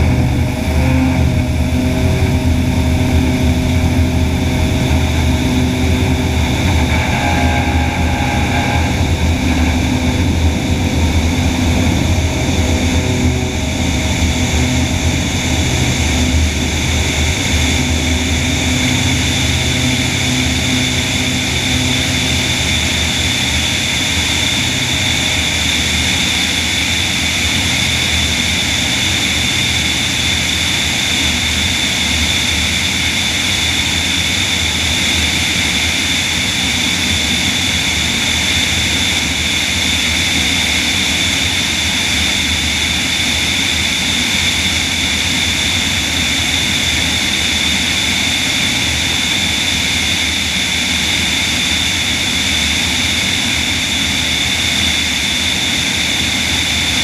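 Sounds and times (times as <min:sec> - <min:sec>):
electric propeller motor whine: 0:00.0 - 0:57.0.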